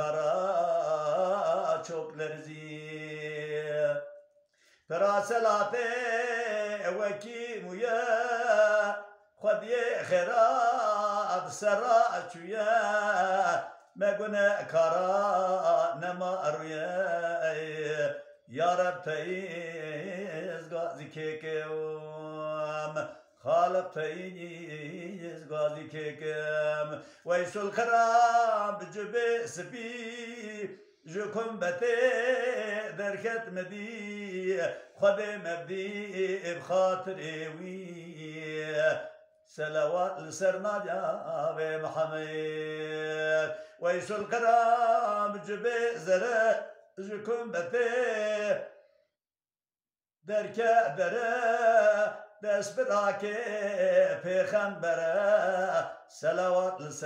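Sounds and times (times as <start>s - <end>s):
man singing unaccompanied: 0.0s - 4.2s, 4.9s - 48.8s, 50.2s - 57.0s.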